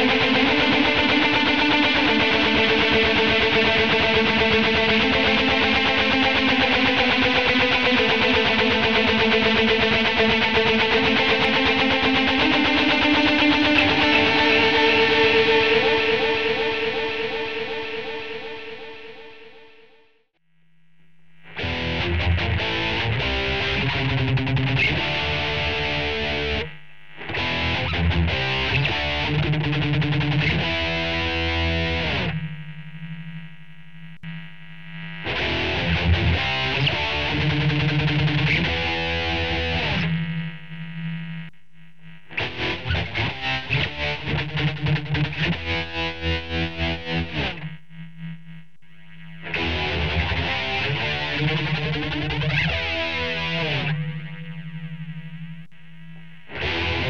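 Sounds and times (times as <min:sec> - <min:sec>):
distorted electric guitar riff: 0:00.0 - 0:20.3, 0:21.0 - 0:57.0
steady amplifier hum: 0:00.0 - 0:57.0.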